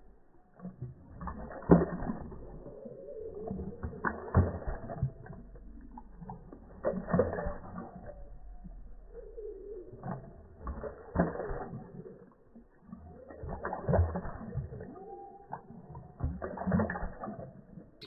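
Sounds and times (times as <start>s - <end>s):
deep splashing and gurgling: 0.0s - 18.0s
dog lapping water: 0.0s - 18.0s.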